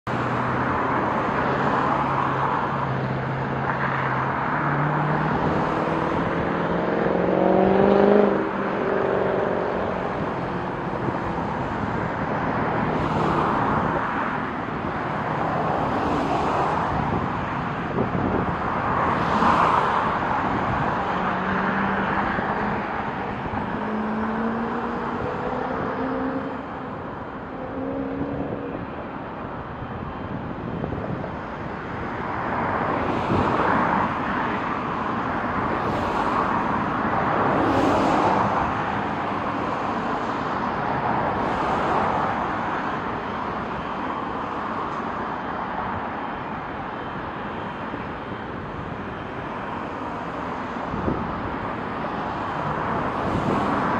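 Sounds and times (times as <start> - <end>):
traffic rumble: 0.0 - 53.9
vehicles passing close: 0.0 - 53.9.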